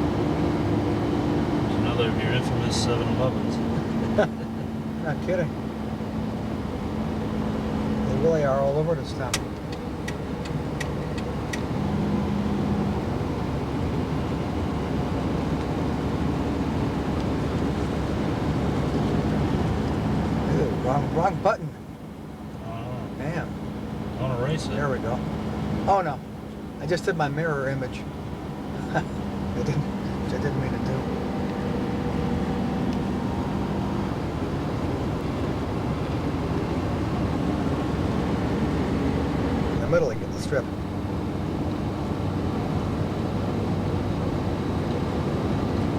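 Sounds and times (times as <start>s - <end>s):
car road and engine rumble: 0.0s - 45.9s.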